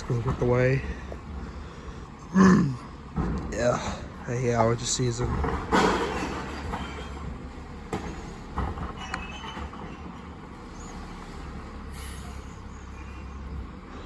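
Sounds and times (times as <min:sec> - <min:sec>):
garbage truck engine running: 0:00.0 - 0:14.0.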